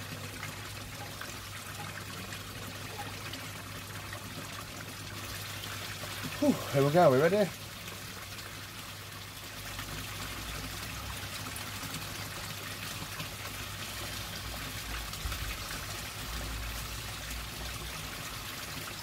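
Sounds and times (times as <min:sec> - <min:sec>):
water trickling into pond: 0:00.0 - 0:19.0.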